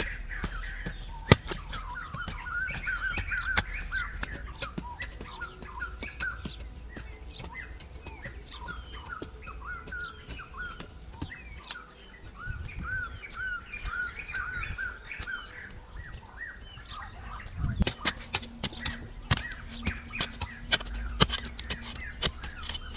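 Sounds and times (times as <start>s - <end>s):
birds chirping: 0.0s - 22.9s
hand hoe chopping dry earth: 0.0s - 22.9s.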